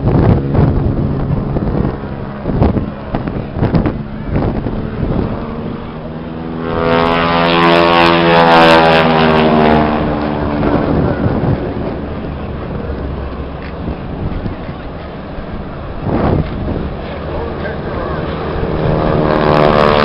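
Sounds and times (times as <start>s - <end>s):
propeller plane engine: 0.0s - 20.0s
wind buffeting microphone: 0.0s - 20.0s.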